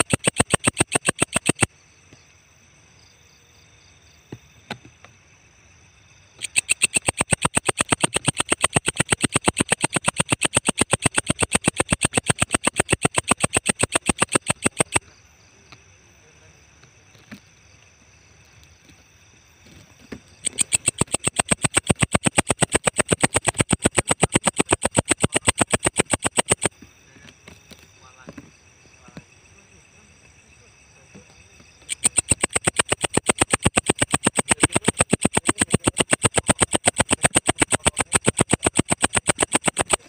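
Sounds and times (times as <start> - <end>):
insect calling with clicks: 0.0 - 40.0.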